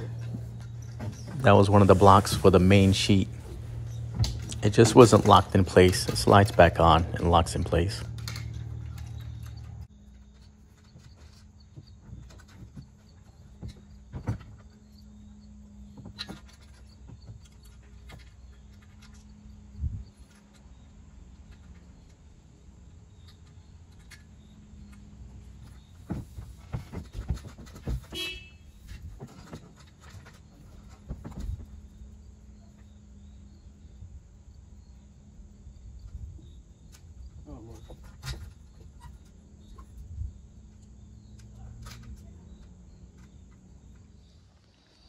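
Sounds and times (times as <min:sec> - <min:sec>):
outdoor background: 0:00.0 - 0:45.0.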